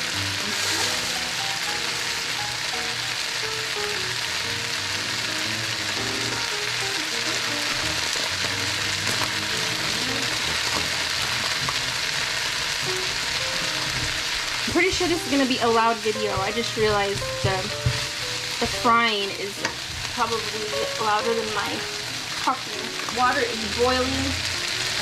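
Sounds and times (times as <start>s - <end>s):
background music: 0.0s - 25.0s
food sizzling in a hot pan: 0.0s - 25.0s.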